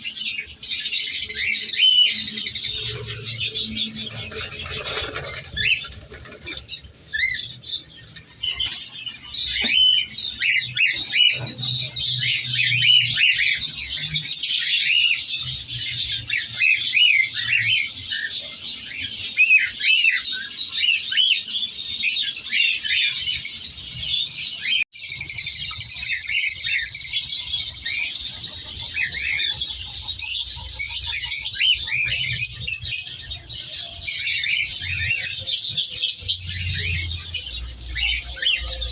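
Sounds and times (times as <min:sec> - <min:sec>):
cockatiels chirping: 0:00.0 - 0:38.9.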